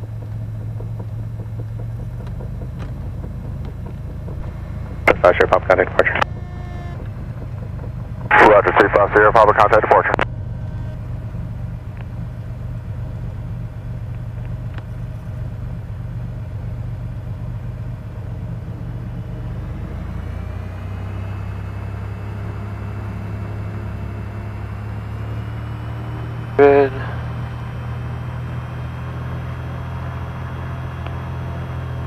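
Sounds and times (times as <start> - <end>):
piston aircraft engine running: 0.0 - 32.0.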